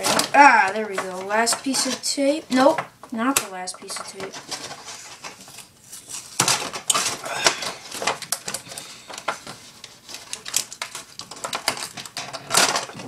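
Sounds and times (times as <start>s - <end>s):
packaging crackling and scratching: 0.0s - 13.0s.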